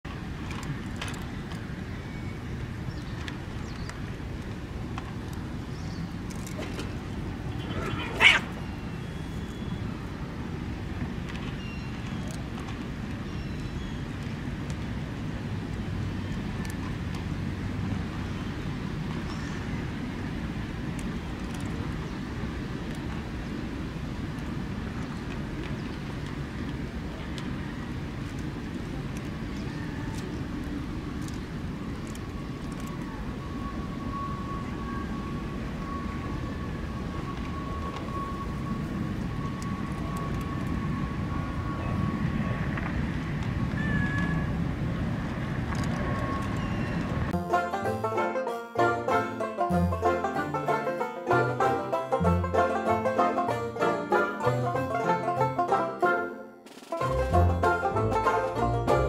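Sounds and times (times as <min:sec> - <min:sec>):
low outdoor rumble: 0:00.1 - 0:48.1, 0:57.0 - 0:59.0.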